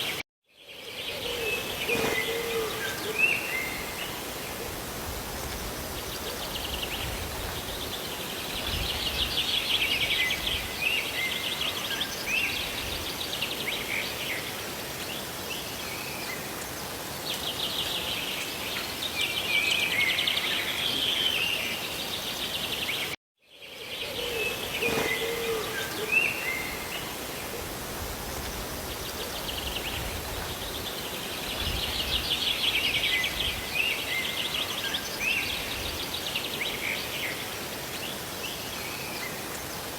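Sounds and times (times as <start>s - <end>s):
songbirds chirping: 0.0s - 39.9s
rain and falling water: 1.6s - 23.2s, 24.9s - 39.9s.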